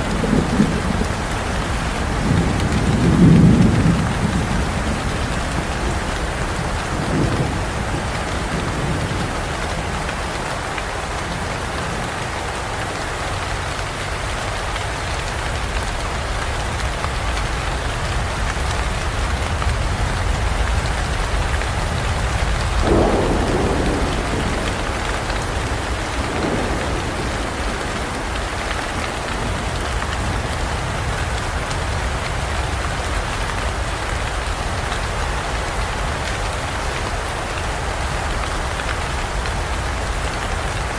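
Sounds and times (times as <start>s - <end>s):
low rumble of thunder: 0.0s - 40.9s
steady rain falling: 0.0s - 40.9s.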